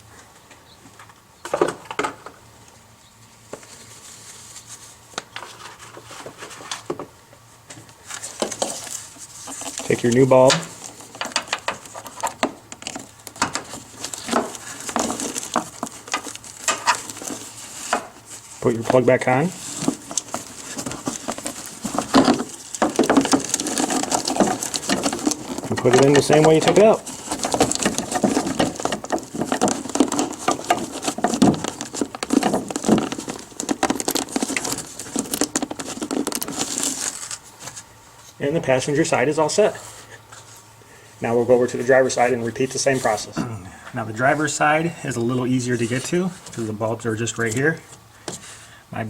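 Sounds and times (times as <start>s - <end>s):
rustling: 3.0s - 43.4s.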